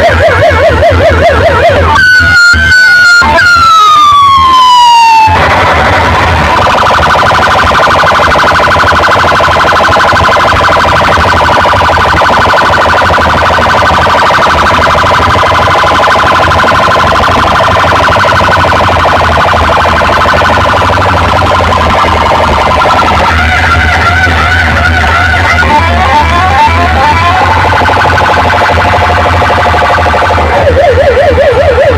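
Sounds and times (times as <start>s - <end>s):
electronic siren-like alarm tone: 0.0s - 31.9s
heavy bass: 0.0s - 31.9s.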